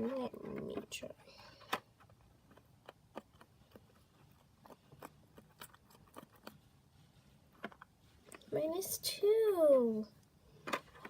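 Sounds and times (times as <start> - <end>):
slime being stirred with stick: 0.0 - 10.0.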